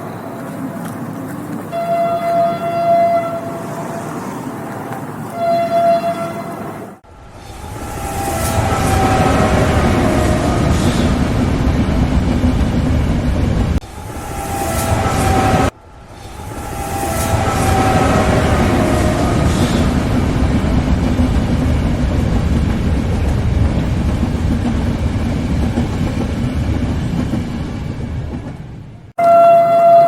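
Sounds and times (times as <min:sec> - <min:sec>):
train wheels rumbling on rails: 0:00.0 - 0:29.2.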